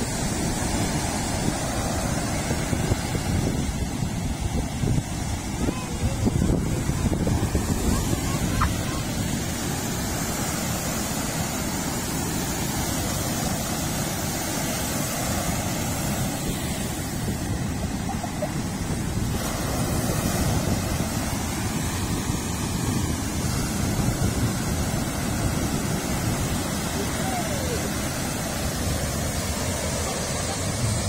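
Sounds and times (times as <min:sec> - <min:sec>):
sea surf washing: 0:00.0 - 0:31.0
wind buffeting microphone: 0:00.0 - 0:31.0.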